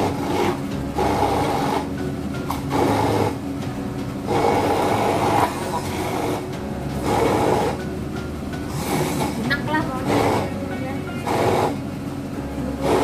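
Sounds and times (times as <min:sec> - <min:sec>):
hand blender grinding paste: 0:00.0 - 0:03.5, 0:04.2 - 0:07.9, 0:08.7 - 0:11.8, 0:12.7 - 0:13.0.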